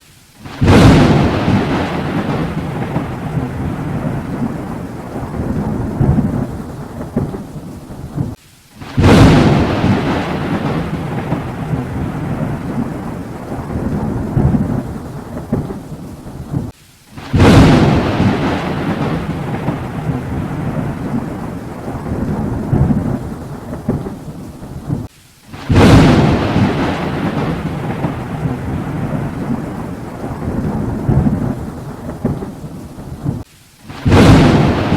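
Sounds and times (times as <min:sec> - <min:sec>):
rolling thunder rumble: 0:00.4 - 0:34.9
thunder cracks: 0:00.4 - 0:34.9.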